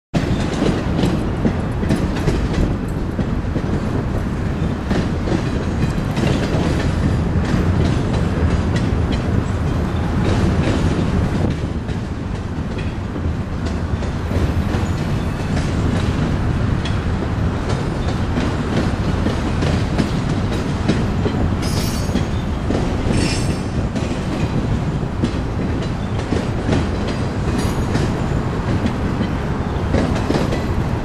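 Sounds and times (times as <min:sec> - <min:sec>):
train rumble: 0:00.2 - 0:31.0
train wheels clicking over rail joints: 0:00.2 - 0:31.0.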